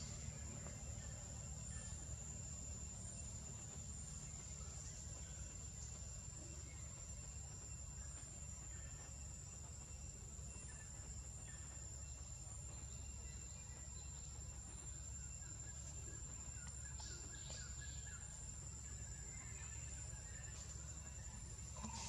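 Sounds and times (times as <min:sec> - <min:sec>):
faint chirps: 0:00.0 - 0:22.0
high-pitched insect drone: 0:00.0 - 0:22.0.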